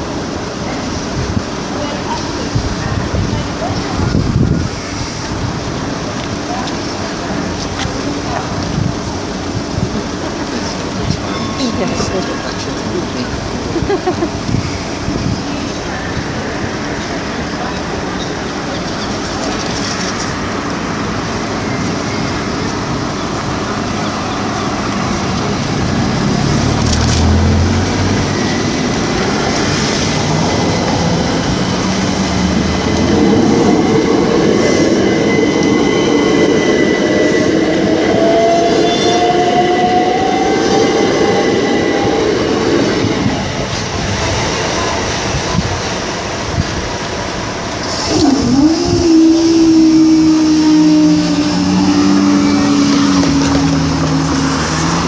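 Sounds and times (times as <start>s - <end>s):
train traction motors whining: 0.0s - 55.0s.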